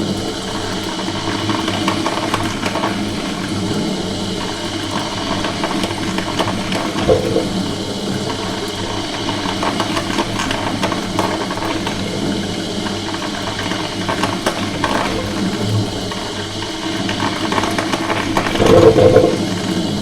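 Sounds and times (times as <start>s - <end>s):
coffee machine pump humming: 0.0s - 20.0s
water and steam hissing: 0.0s - 20.0s.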